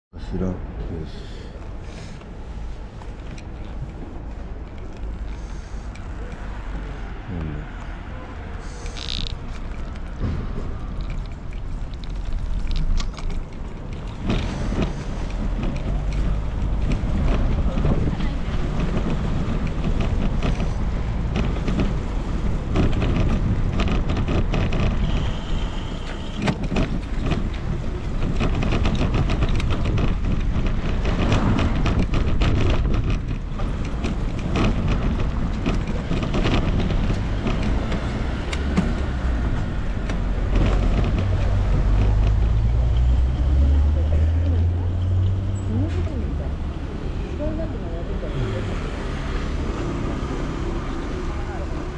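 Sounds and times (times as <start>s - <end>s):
bicycle rattles and knocks: 1.6s - 47.8s
wind buffeting microphone: 3.4s - 47.8s.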